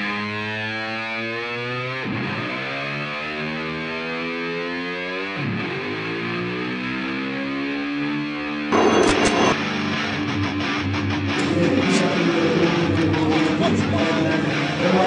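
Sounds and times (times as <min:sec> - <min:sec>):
distorted electric guitar music: 0:00.0 - 0:15.0.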